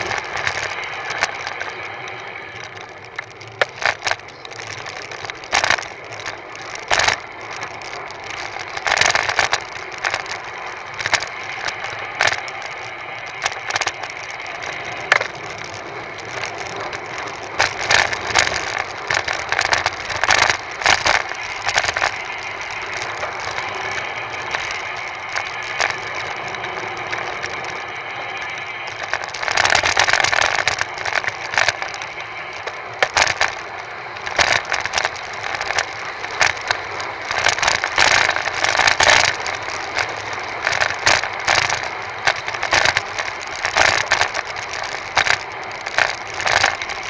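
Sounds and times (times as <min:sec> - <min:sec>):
bicycle rattles and knocks: 0:00.0 - 0:47.0
wind and tyre noise: 0:00.0 - 0:47.0.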